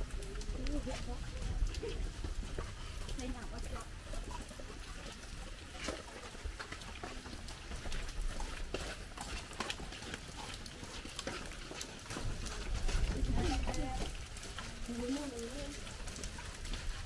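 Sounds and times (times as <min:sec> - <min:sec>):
footsteps walking: 0:00.0 - 0:17.0.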